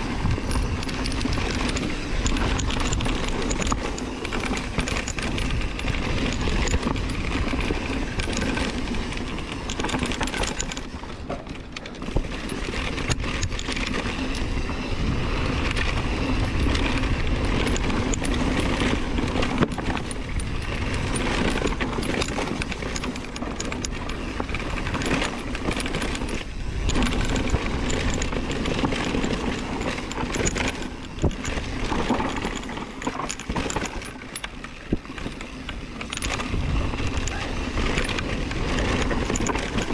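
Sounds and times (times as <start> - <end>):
bike rattling and clicking: 0.0 - 39.9
bike tyres rumbling on dirt trail: 0.0 - 39.9.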